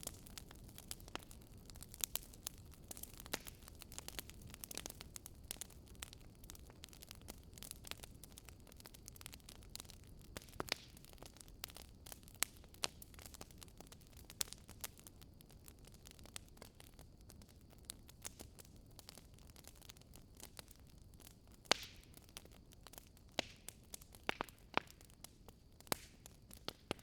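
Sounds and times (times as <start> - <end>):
campfire crackling: 0.0 - 27.0
low rumble of fire: 0.0 - 27.0.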